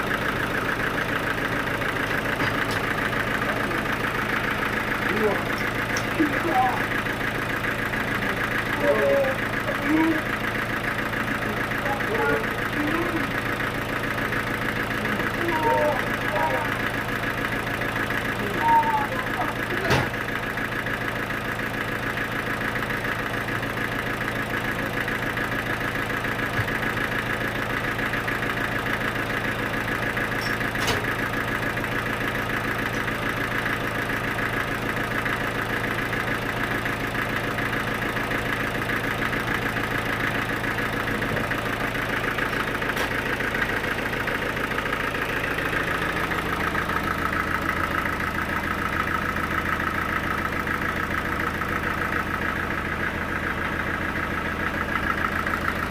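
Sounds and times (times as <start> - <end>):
sawmill machinery humming: 0.0 - 55.9.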